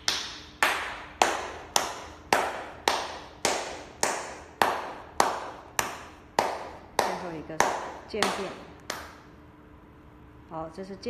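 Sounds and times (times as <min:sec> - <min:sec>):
hand claps: 0:00.0 - 0:09.2.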